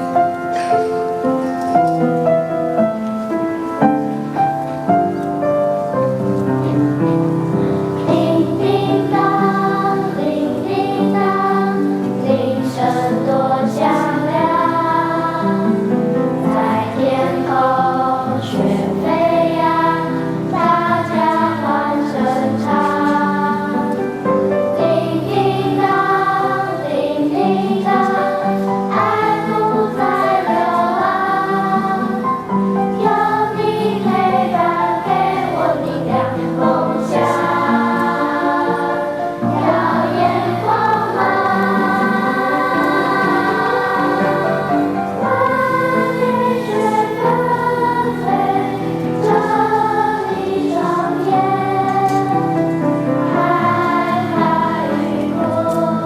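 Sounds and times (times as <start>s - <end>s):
school choir singing: 0.0s - 56.0s.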